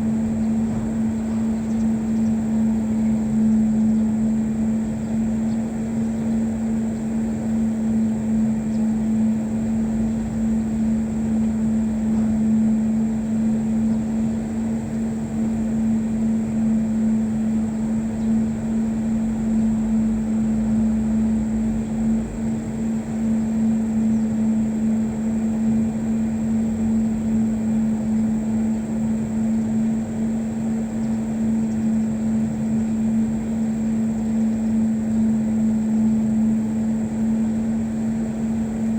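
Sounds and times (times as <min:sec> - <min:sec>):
steady mechanical hum: 0:00.0 - 0:38.9.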